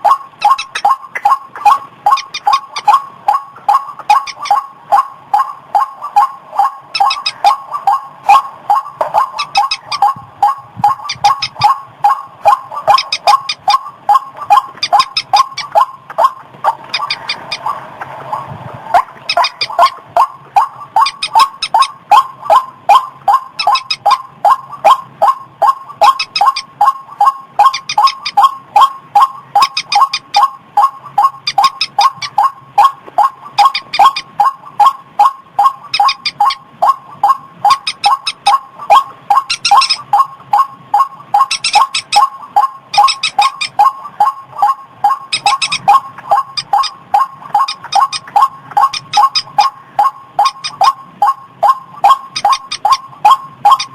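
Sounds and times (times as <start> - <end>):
higher bird notes in bursts: 0.0 - 53.9.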